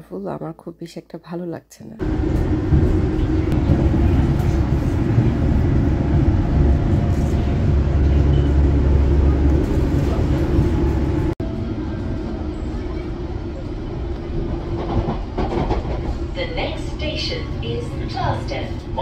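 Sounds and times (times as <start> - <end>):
train rumbling on rails: 2.0 - 19.0.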